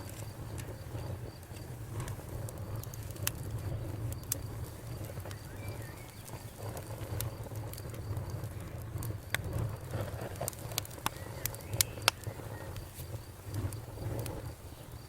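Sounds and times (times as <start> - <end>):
burning wood crackling and popping: 0.0 - 15.0
flames rumbling: 0.0 - 15.0.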